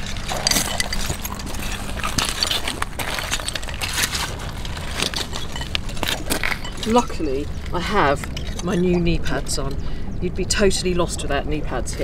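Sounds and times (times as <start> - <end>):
stones and shards clinking: 0.0 - 9.8.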